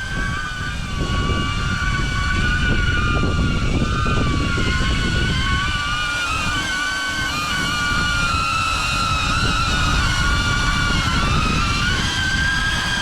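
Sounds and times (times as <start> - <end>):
drone propellers whining: 0.0 - 13.0
wind buffeting rumble: 0.0 - 13.0.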